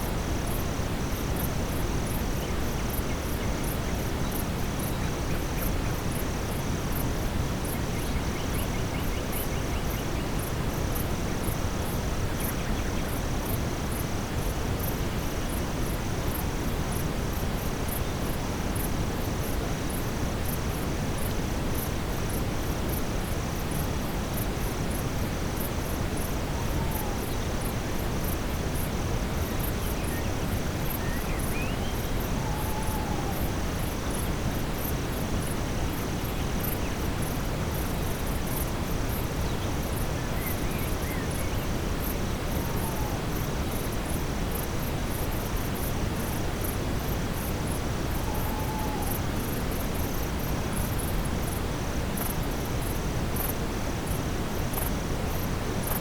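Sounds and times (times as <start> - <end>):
insects chirping in pulsing rhythm: 0.0 - 56.0
steady brown noise: 0.0 - 56.0.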